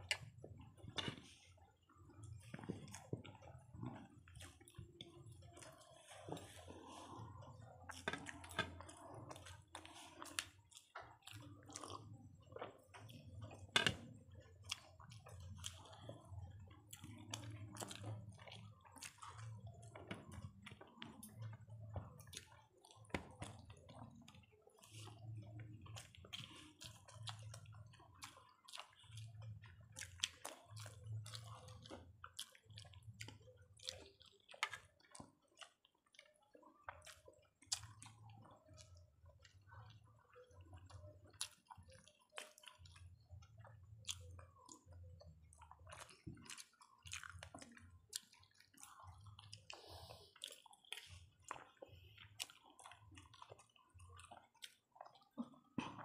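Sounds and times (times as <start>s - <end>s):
people chewing with wet mouth sounds: 0.0s - 56.0s.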